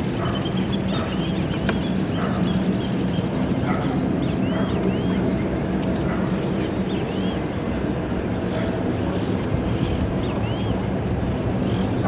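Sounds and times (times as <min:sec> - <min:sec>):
low rumbling hum: 0:00.0 - 0:12.0
small birds chirping: 0:00.0 - 0:12.0.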